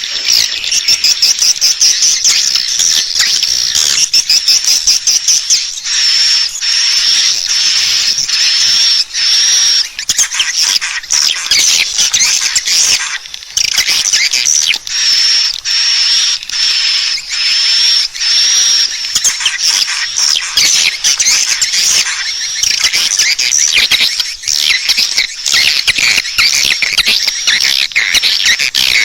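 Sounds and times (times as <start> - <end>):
chattering twitter: 0.0 - 29.0.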